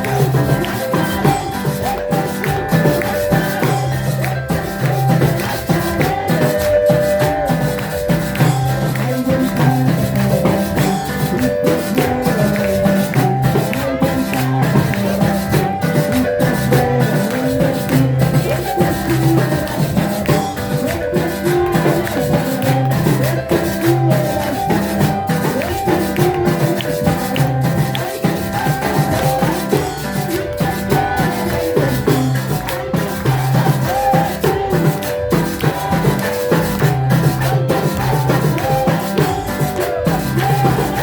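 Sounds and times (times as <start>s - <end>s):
music with steady beat: 0.0s - 41.0s.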